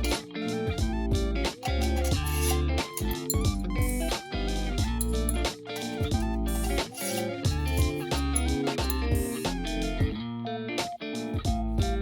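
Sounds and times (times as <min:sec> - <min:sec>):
instrumental music with guitar: 0:00.0 - 0:12.0.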